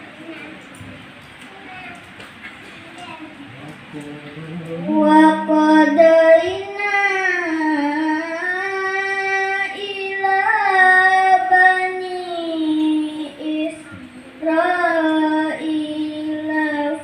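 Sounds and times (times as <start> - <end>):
boy chanting melodically: 3.0 - 17.0.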